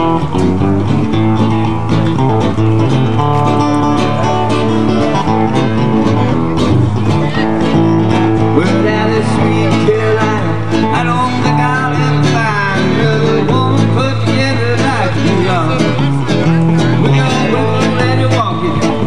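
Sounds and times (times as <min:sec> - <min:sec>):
acoustic guitar: 0:00.0 - 0:19.0
amplified guitar lead line: 0:00.0 - 0:19.0.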